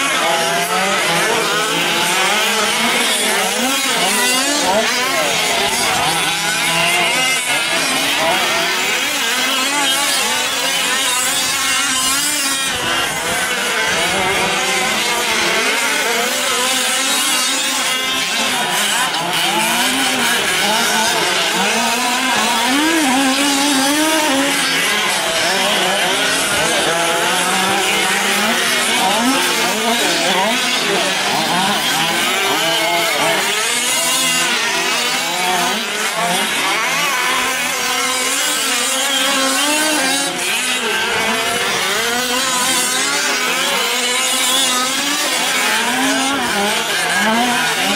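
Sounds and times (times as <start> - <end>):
rc truck engines revving: 0.0 - 47.9.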